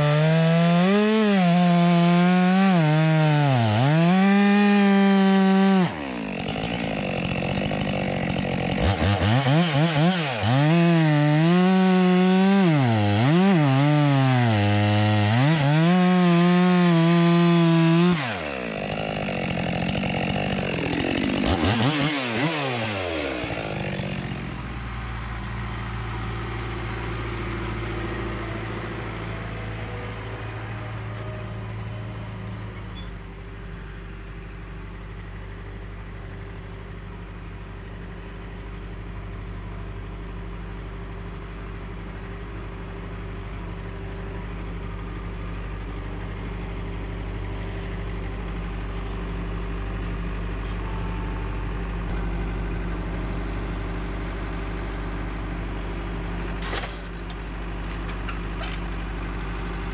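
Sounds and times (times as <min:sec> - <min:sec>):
tractor diesel engine running: 0:03.8 - 0:13.5, 0:16.4 - 0:59.9.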